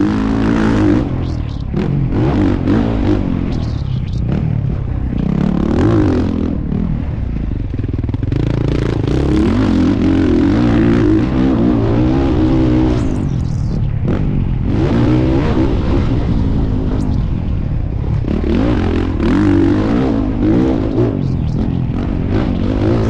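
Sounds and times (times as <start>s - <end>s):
motocross engine revving: 0.0s - 23.0s.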